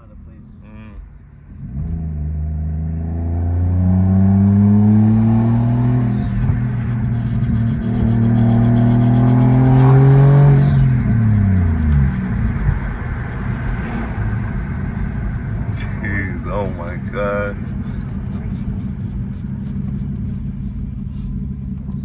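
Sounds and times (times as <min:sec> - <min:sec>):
turbocharged engine accelerating: 0:00.0 - 0:22.0.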